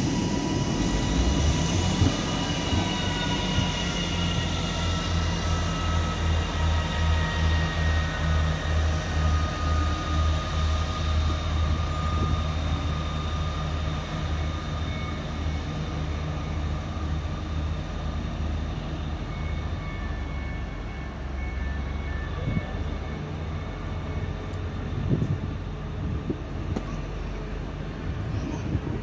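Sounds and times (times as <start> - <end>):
passenger train pulling away: 0.0 - 29.0.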